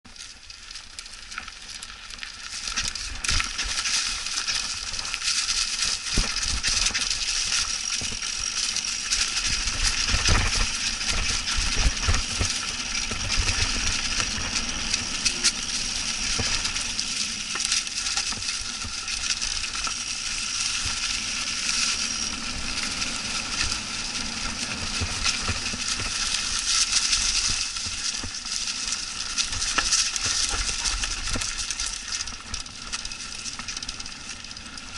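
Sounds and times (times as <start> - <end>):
bike tyres crunching leaves: 0.1 - 34.9.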